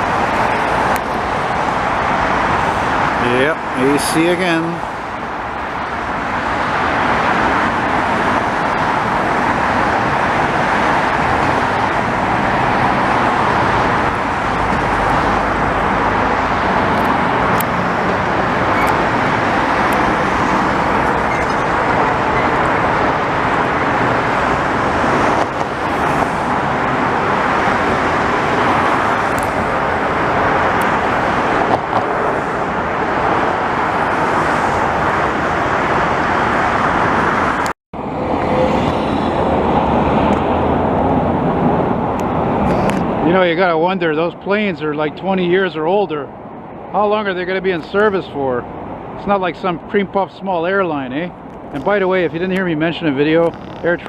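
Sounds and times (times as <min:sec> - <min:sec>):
dense highway traffic: 0:00.0 - 0:54.0.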